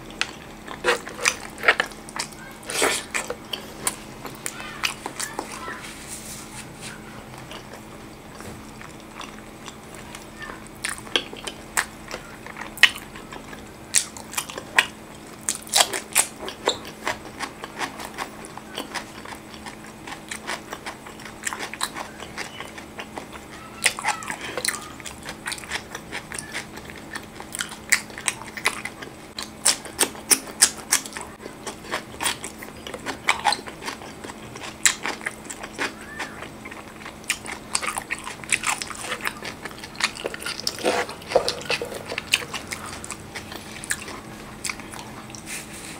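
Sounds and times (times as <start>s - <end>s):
person chewing with mouth smacks: 0.0s - 45.9s.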